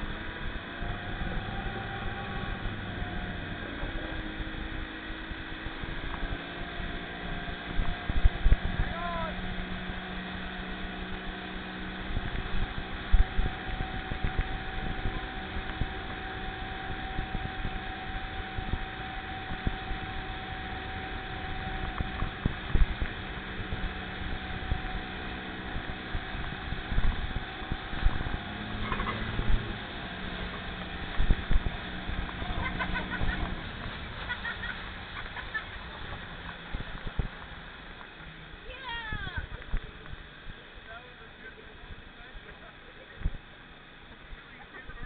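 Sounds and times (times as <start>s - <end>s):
motorboat engine running: 0.0s - 45.0s
water and wind noise: 0.0s - 45.0s.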